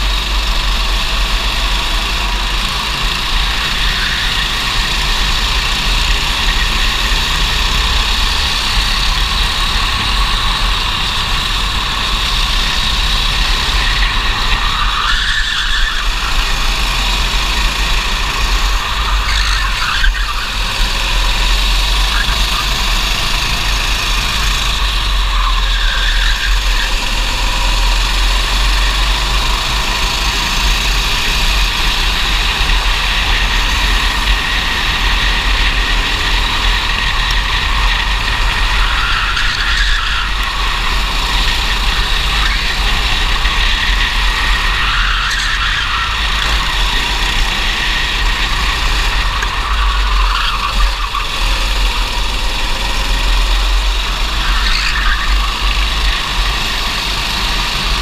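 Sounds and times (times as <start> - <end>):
kart engine running flat out: 0.0 - 58.0
other kart engines: 0.0 - 58.0.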